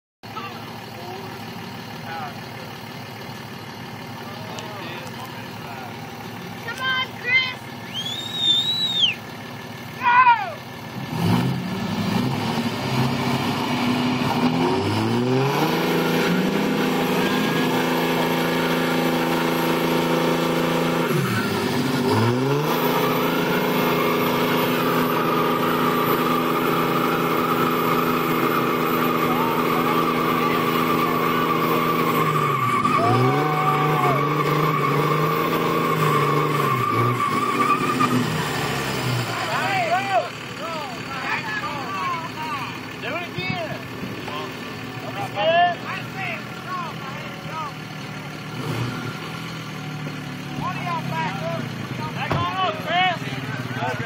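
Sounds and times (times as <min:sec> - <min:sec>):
diesel truck engines revving hard: 0:00.2 - 0:54.0.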